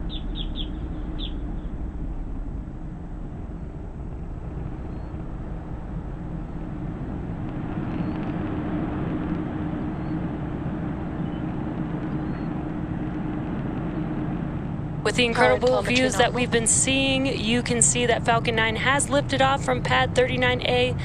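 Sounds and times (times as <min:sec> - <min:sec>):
rocket engines roaring: 0:00.0 - 0:21.0
steady low hum: 0:00.0 - 0:21.0.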